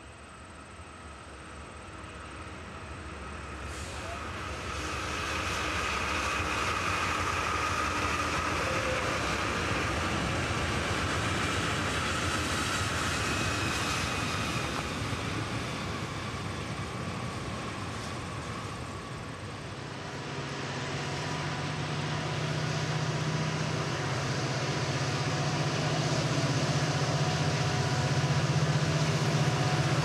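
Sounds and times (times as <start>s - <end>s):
diesel freight locomotives passing: 0.0s - 30.0s.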